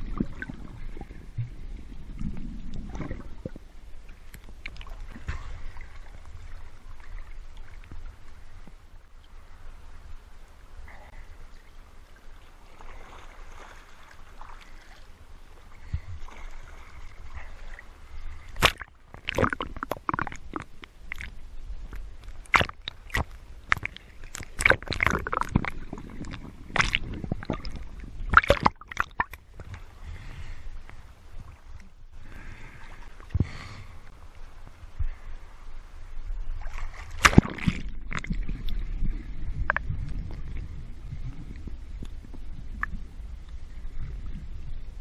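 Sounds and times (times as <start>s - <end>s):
water sloshing and gurgling: 0.0s - 45.0s.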